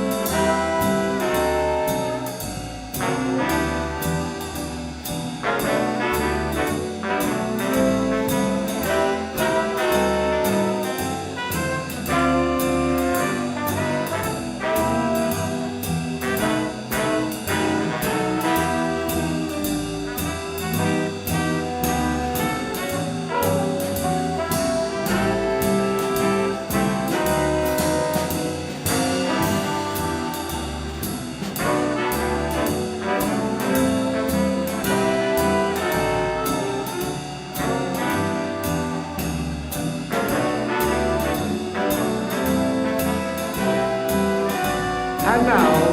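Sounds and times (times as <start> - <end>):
swing band playing: 0.0 - 45.9.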